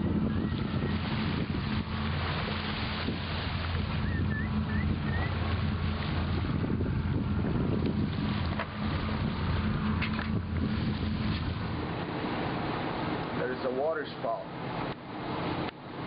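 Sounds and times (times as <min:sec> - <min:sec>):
wind on microphone: 0:00.0 - 0:13.4
boat engine running: 0:00.0 - 0:16.0.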